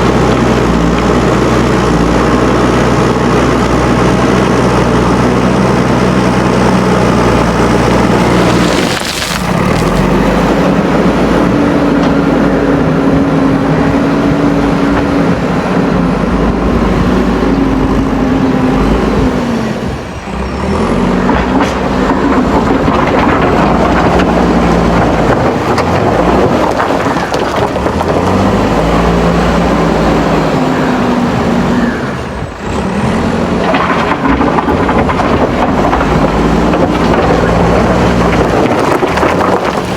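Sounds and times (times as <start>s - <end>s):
backhoe diesel engine revving: 0.0s - 39.9s.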